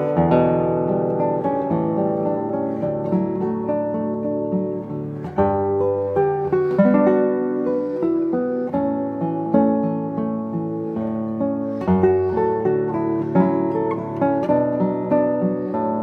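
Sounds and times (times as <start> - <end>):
fingerpicked classical guitar: 0.0 - 16.0.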